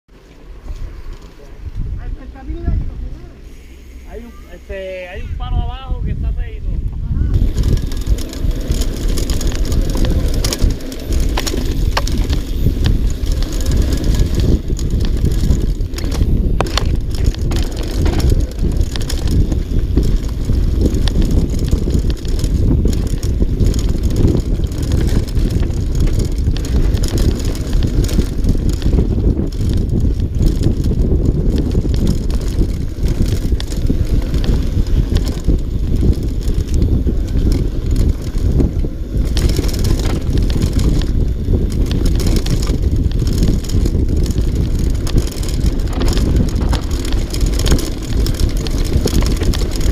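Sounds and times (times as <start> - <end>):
bike clicks and rattles: 0.1 - 2.7, 6.8 - 49.9
wind on microphone: 0.5 - 49.9
tyres rolling on dirt: 7.3 - 49.9.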